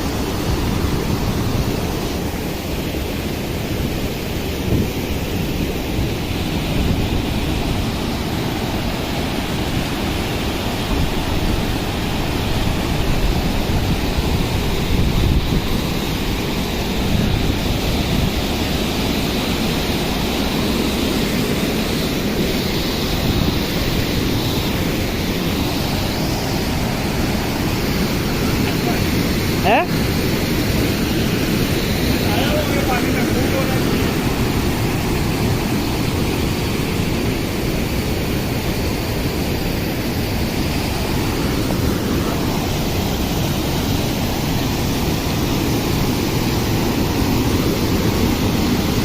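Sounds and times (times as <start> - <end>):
waterfall rushing: 0.0 - 49.0
wind buffeting microphone: 0.0 - 49.0.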